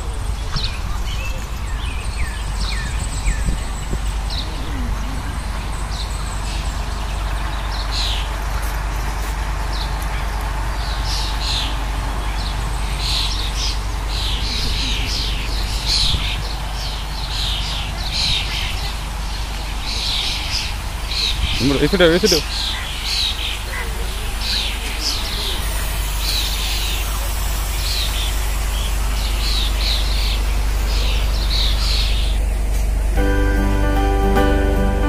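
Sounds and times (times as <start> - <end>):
birds chirping: 0.0 - 35.0
steady low rumble: 0.0 - 35.0.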